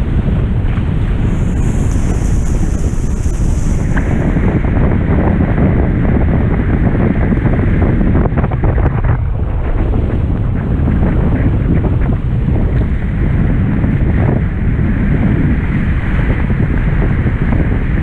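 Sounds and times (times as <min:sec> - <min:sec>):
water rushing past hulls: 0:00.0 - 0:18.0
wind buffeting microphone: 0:00.0 - 0:18.0.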